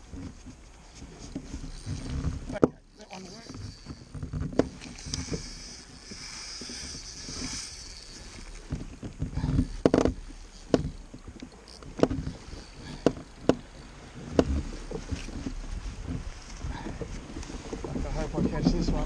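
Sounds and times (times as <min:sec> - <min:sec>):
knocks and clunks on kayak: 0:00.0 - 0:19.0
water lapping: 0:00.0 - 0:19.0.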